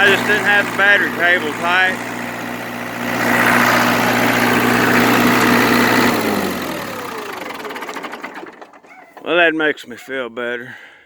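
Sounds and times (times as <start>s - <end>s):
tractor diesel engine running: 0.0s - 9.9s.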